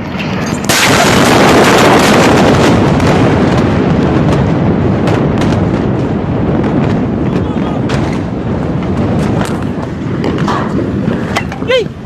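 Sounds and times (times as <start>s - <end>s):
explosion bang: 0.0s - 11.7s
sharp cracks: 0.0s - 11.8s.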